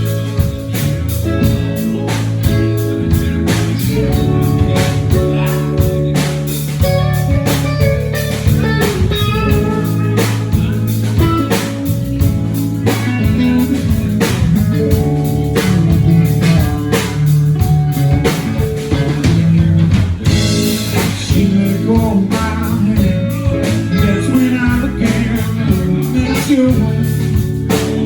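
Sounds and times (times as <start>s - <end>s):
drum kit beat: 0.0s - 28.0s
electric guitar lines: 0.0s - 28.0s.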